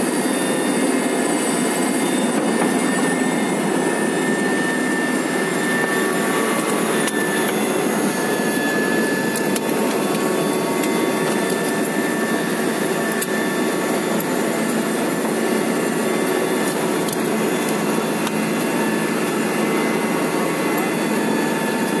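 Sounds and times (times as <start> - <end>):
helicopter engine and rotor: 0.0 - 22.0.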